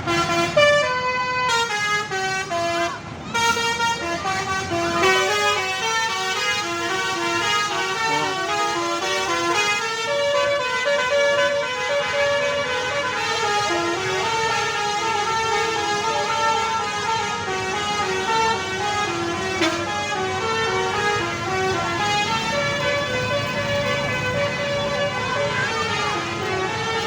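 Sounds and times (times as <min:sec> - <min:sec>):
multi-tone musical bus horn: 0:00.0 - 0:27.0.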